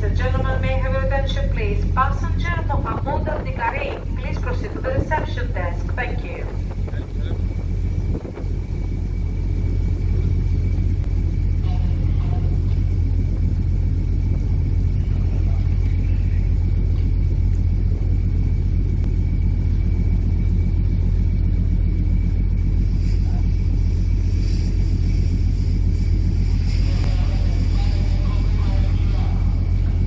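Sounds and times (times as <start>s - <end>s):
faint high whine: 0.0s - 30.0s
ferry engines rumbling: 0.0s - 30.0s.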